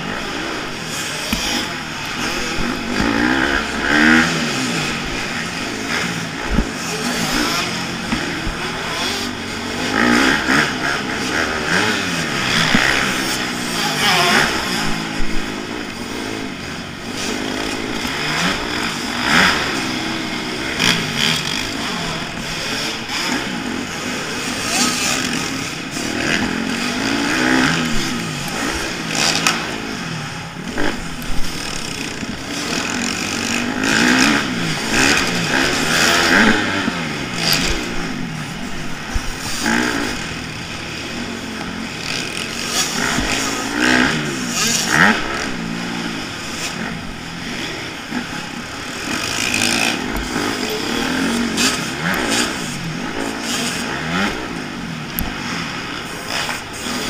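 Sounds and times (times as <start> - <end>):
dirt bike engine racing: 0.0 - 57.0.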